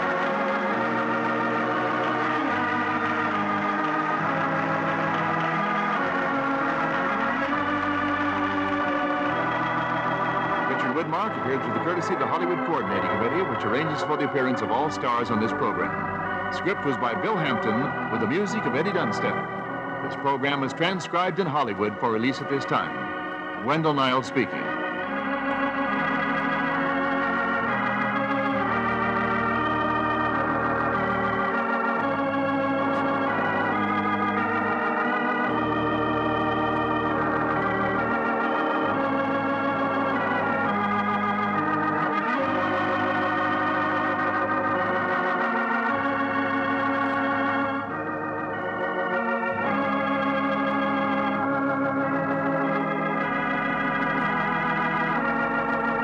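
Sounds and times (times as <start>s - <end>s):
organ music: 0.0s - 56.0s.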